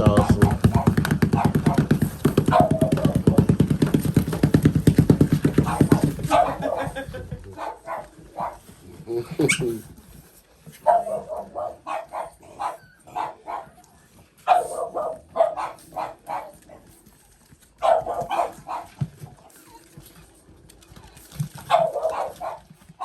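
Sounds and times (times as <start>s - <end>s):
puppies yapping: 0.0s - 10.0s, 10.7s - 23.0s.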